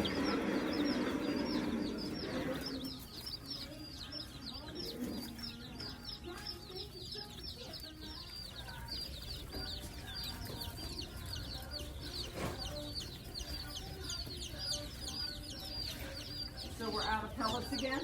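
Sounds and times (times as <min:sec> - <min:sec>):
baby birds chirping: 0:00.0 - 0:18.0.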